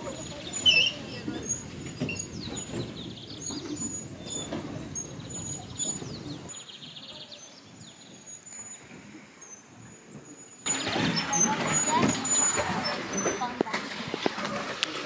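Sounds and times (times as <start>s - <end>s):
low outdoor background noise: 0.0s - 15.0s
birds chirping and whistling: 0.1s - 13.5s.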